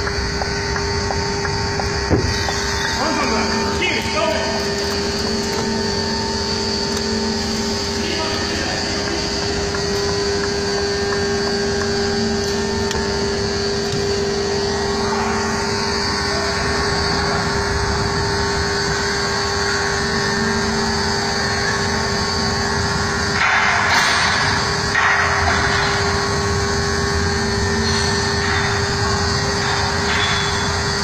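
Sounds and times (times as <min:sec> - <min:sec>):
lorry diesel engine droning: 0:00.0 - 0:31.0.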